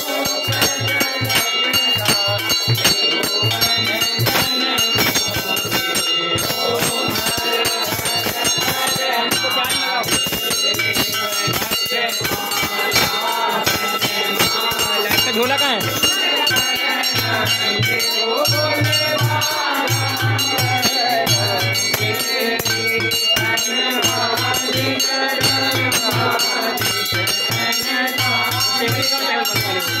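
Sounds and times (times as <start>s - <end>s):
ringing temple bells: 0.0s - 30.0s
voices singing devotional chant: 0.0s - 30.0s.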